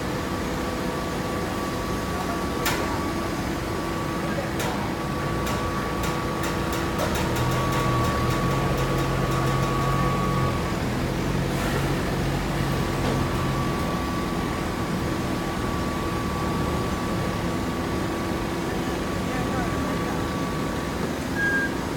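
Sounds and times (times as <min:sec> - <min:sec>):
hydraulic baler humming: 0:00.4 - 0:21.9.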